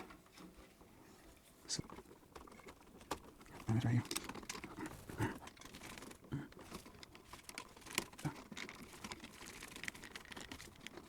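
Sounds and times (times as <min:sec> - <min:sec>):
light rustling of hands: 0:00.0 - 0:09.8.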